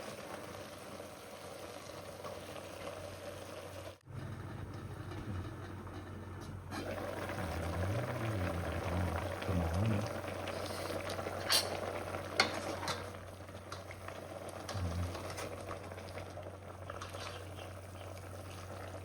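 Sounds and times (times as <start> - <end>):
food bubbling and sizzling: 0.0 - 5.9, 6.6 - 19.0.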